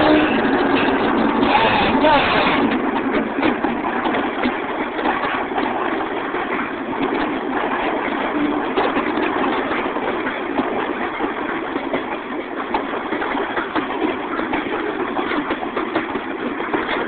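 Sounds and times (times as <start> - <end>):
diesel locomotives passing: 0.0 - 17.0
freight car wheels clicking on rails: 0.0 - 17.0.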